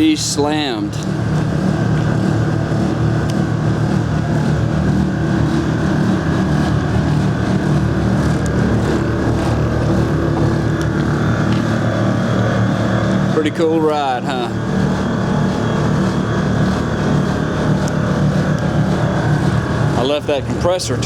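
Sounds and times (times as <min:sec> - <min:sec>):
electric air compressor running: 0:00.0 - 0:21.0.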